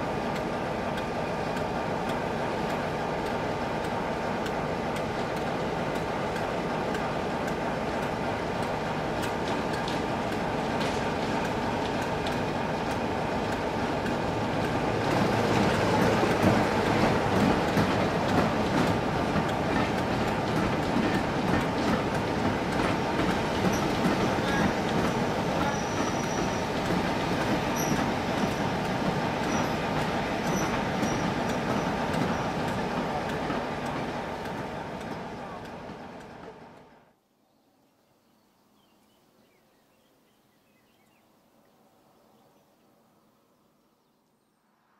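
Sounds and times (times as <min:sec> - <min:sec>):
diesel locomotive engine: 0:00.0 - 0:37.2
rail noise: 0:00.0 - 0:37.2.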